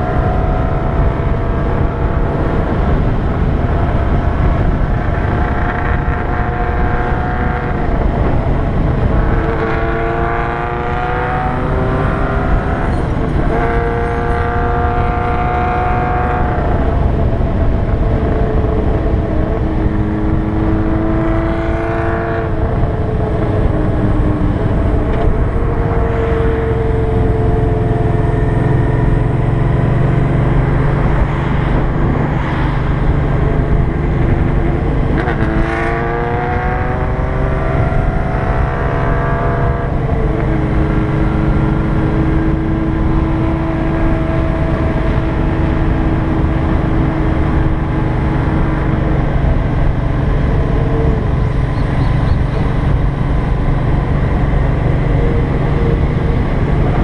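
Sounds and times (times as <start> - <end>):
motorcycle engine running: 0.0 - 57.0
road noise: 0.0 - 57.0
wind noise: 0.0 - 57.0.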